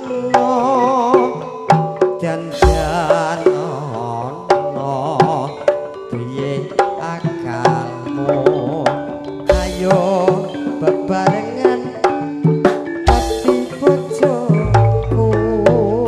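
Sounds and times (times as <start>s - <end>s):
band playing instrumental: 0.0s - 16.0s
hand drum strokes: 0.0s - 16.0s.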